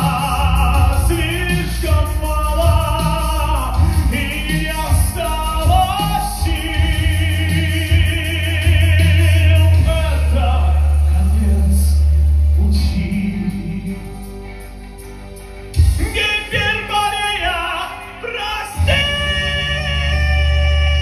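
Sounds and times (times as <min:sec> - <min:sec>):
man singing into microphone: 0:00.0 - 0:14.4, 0:15.9 - 0:21.0
music with deep bass: 0:00.0 - 0:21.0.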